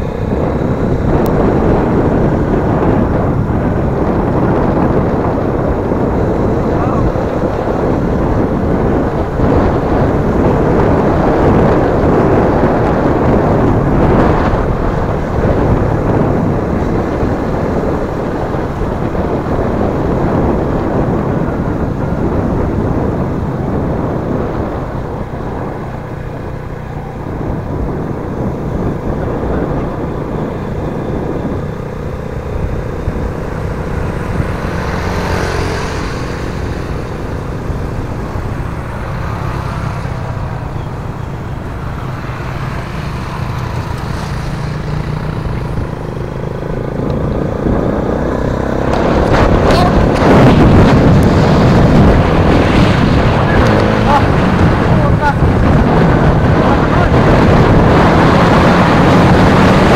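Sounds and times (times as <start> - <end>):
approaching motorcycle engine: 0.0 - 59.9
motorcycle engine hum: 0.0 - 59.9
wind rush on microphone: 0.0 - 59.9.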